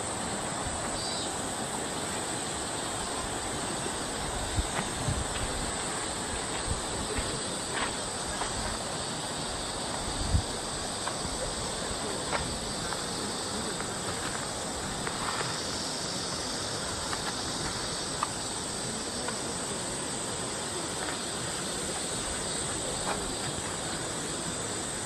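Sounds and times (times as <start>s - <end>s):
outdoor ambient hiss: 0.0s - 25.0s.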